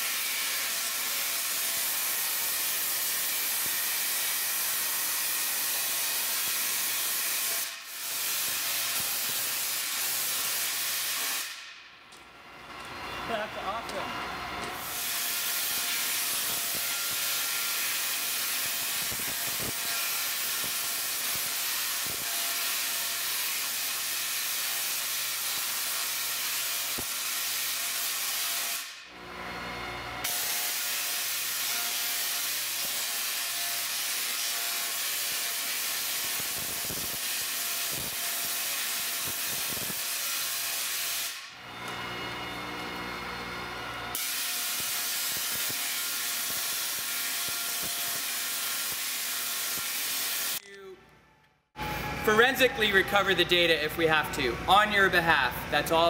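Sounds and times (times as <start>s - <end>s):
tesla coil arcs buzzing: 0.0s - 11.7s, 13.2s - 29.2s, 30.2s - 41.6s, 44.1s - 50.6s.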